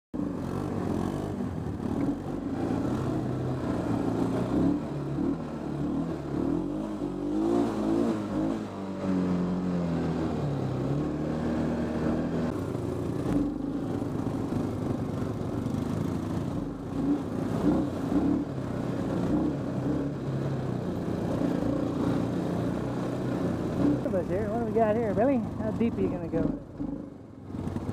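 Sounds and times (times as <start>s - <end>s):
atv engine revving: 0.2s - 27.9s.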